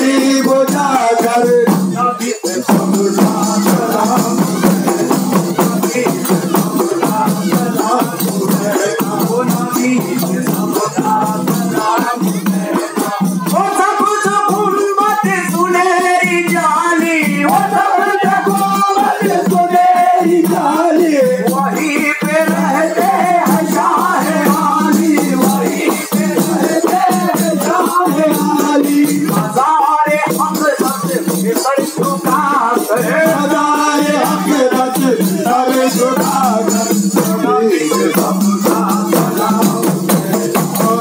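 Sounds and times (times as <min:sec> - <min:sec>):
frame drums: 0:00.0 - 0:41.0
jingling percussion: 0:00.0 - 0:41.0
man singing a chant: 0:00.0 - 0:41.0.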